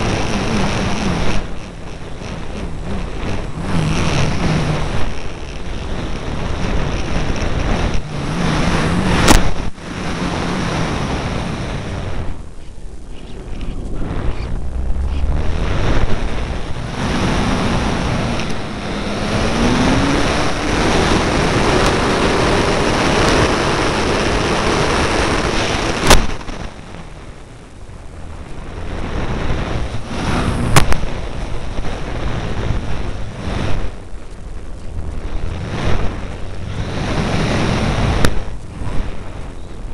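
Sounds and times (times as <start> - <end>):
faint electric motor drone: 0.0 - 39.9
wind rushing over microphone: 0.0 - 39.9.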